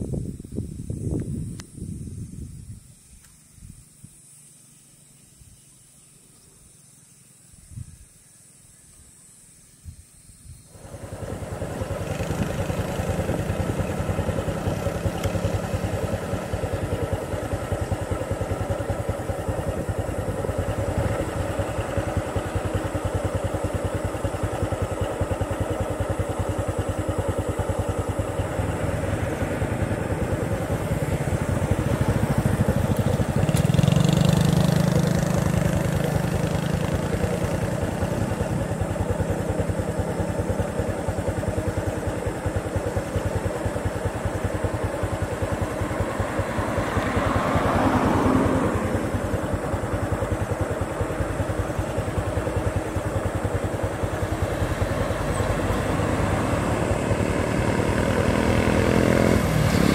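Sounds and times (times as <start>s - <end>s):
engine idling: 10.7s - 59.9s.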